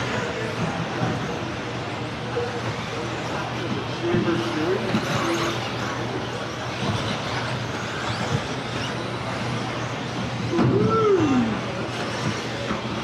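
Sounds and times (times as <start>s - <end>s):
rc car motors and tyres: 0.0s - 13.0s.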